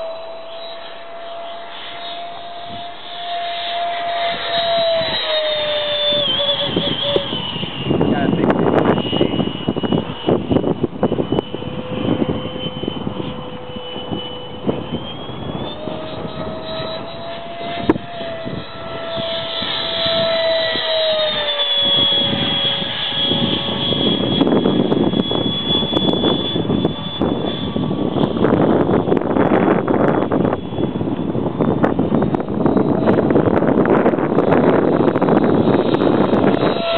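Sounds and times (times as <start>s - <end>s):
electric ducted fan jet whining: 0.0s - 36.9s
wind buffeting microphone: 0.0s - 36.9s.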